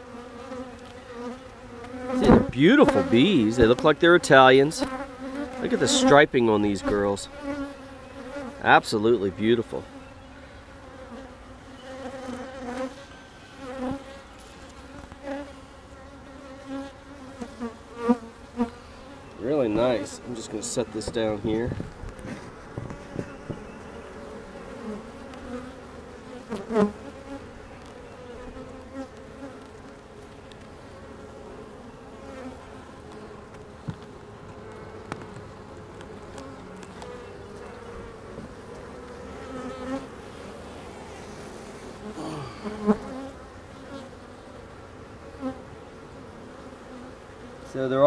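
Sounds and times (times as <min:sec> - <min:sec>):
honey bees buzzing: 0:00.0 - 0:48.0.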